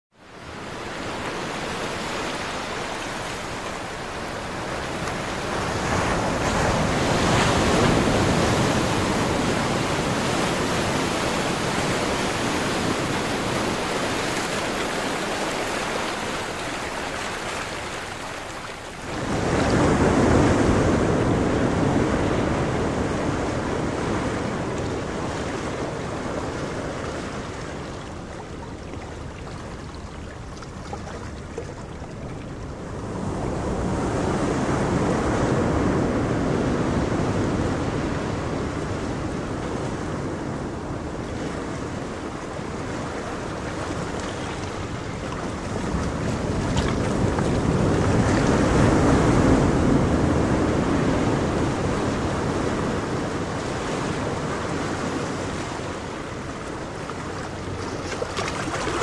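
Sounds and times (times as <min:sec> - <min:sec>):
surf washing against a seawall: 0:00.3 - 0:59.0.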